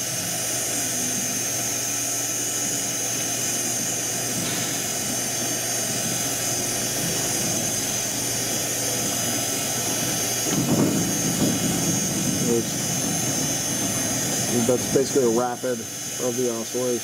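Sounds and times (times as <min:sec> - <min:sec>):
grinder machine hum with whine: 0:00.0 - 0:17.0.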